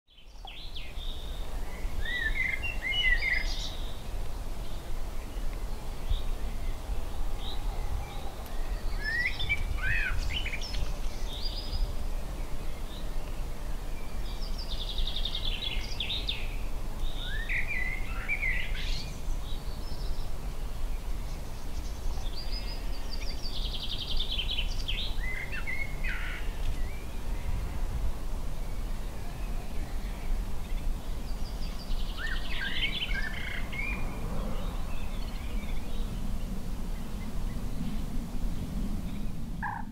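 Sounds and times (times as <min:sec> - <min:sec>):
songbird singing with trills: 0:00.1 - 0:27.7, 0:28.6 - 0:38.0.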